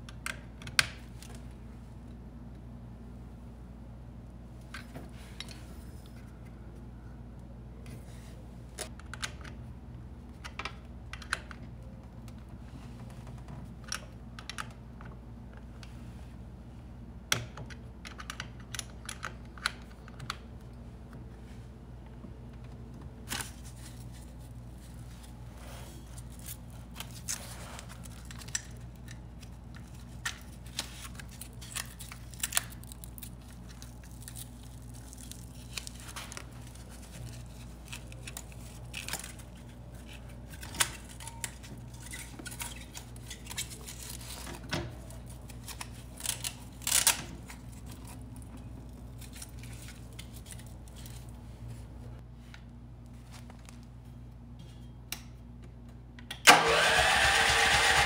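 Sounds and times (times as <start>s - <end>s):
steady low hum: 0.0s - 56.4s.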